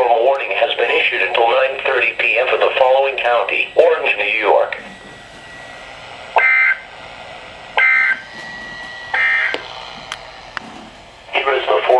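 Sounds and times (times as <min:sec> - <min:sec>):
radio data bursts: 0:00.0 - 0:11.9
radio hiss: 0:00.0 - 0:11.9.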